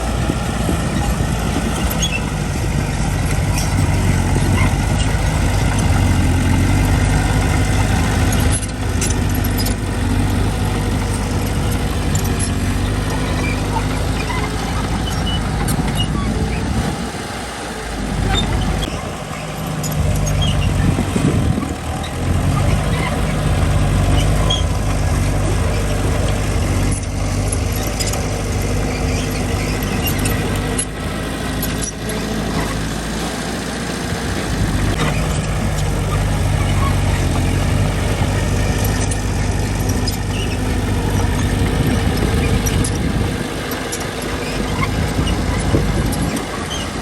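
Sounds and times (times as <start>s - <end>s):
earthmoving machine diesel engine: 0.0s - 47.0s
metal clanks and squeaks: 0.1s - 16.9s, 18.1s - 33.4s, 34.8s - 47.0s.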